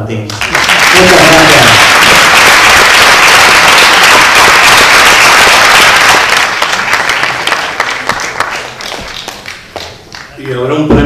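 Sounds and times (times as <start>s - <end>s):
audience applauding: 0.3s - 10.6s.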